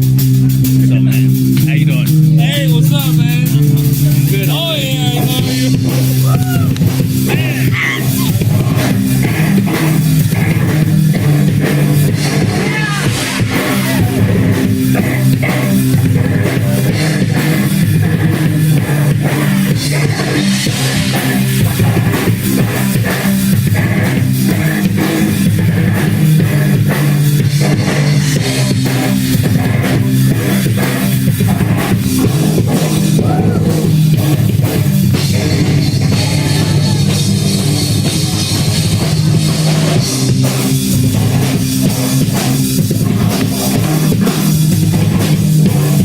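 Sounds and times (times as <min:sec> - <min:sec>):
fast drum beats: 0:00.0 - 0:46.0
heavy metal band playing: 0:00.0 - 0:46.0.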